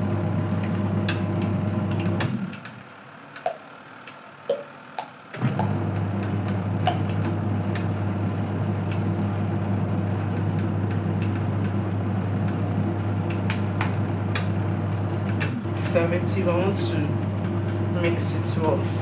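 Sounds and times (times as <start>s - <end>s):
washing machine motor humming: 0.0s - 19.0s.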